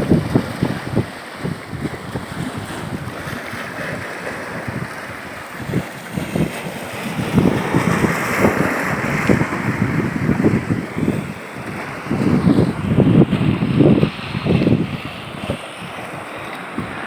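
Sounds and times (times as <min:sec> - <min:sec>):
rough sea waves: 0:00.0 - 0:17.0
wind buffeting microphone: 0:00.0 - 0:17.0.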